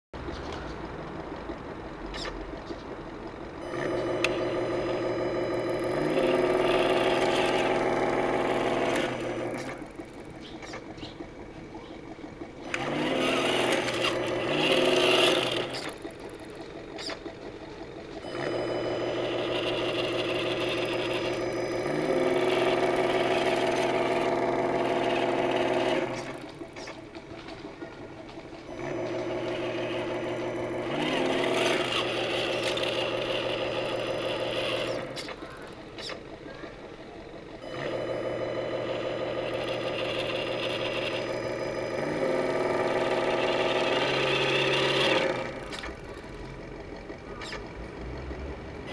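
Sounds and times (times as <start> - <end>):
noisy whirring: 0.2 - 48.9
simulated engine sound: 0.2 - 48.9.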